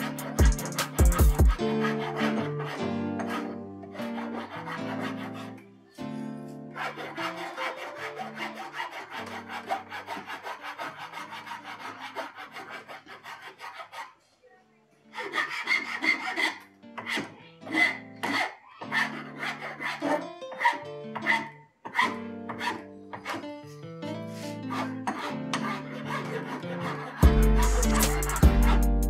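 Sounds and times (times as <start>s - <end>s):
file rasping on wood: 0.0s - 5.6s, 6.7s - 14.2s, 15.1s - 23.5s, 24.3s - 29.0s.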